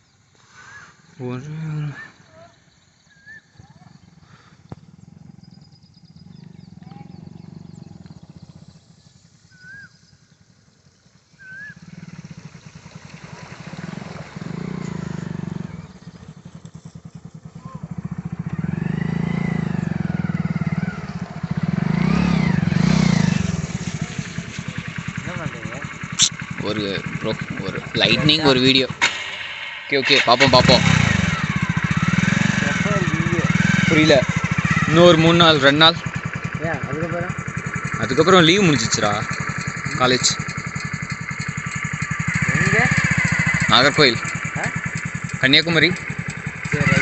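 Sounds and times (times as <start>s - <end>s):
motorcycle engine approaching: 0.0s - 47.0s.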